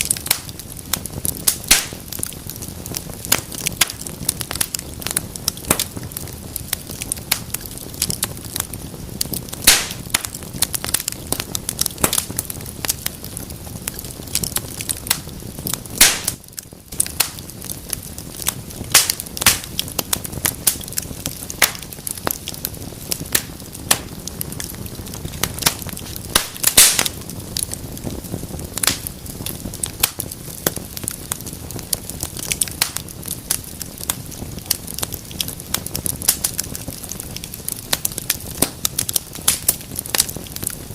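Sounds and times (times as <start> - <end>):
loud fire pops: 0.0 - 40.9
low rush of flame: 0.0 - 40.9
wood fire crackling: 0.0 - 40.9.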